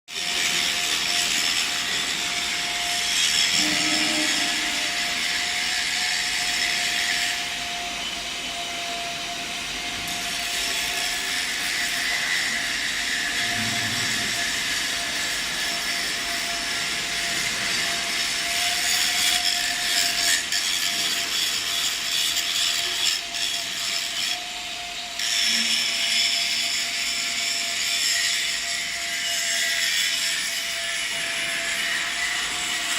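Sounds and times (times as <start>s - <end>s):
welding machine hiss: 0.1s - 32.9s.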